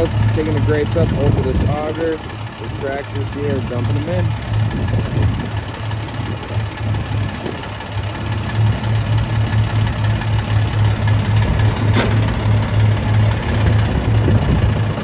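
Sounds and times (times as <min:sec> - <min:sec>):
pulsing diesel engines drone: 0:00.0 - 0:15.0.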